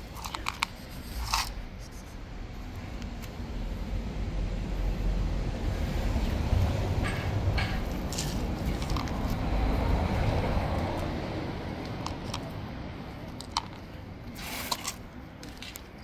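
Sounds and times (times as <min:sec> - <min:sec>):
passing vehicle rumble: 0:01.6 - 0:16.0.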